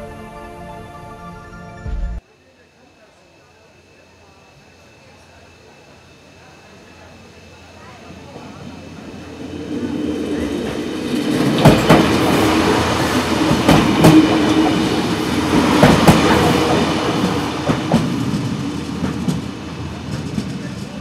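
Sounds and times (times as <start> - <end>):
railcar running hum: 0.0 - 21.0.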